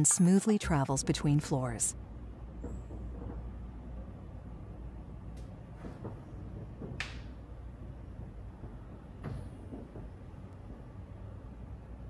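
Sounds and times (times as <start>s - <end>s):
elevator machinery low hum: 0.0s - 12.0s.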